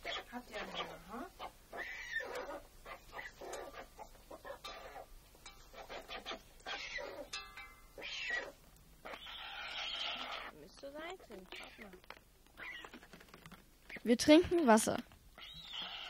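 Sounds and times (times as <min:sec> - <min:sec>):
young storks calling: 0:00.0 - 0:16.0.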